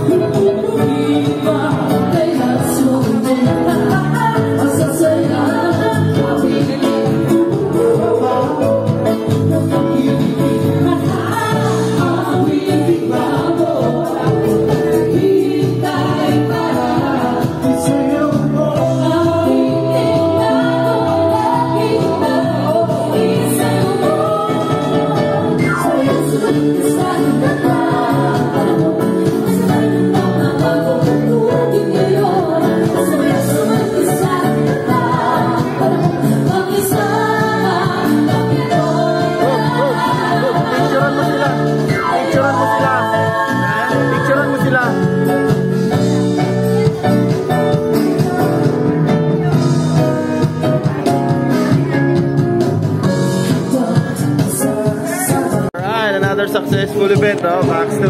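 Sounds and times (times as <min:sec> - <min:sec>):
women singing together: 0:00.0 - 0:45.0, 0:53.4 - 0:55.7
acoustic guitar: 0:00.0 - 0:58.0.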